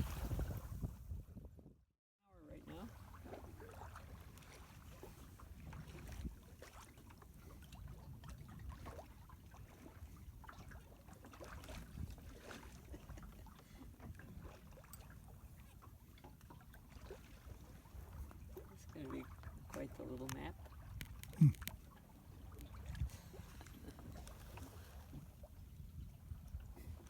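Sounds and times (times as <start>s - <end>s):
water lapping against hull: 0.0s - 1.4s, 2.3s - 27.0s
low rumble of wind: 0.0s - 27.0s.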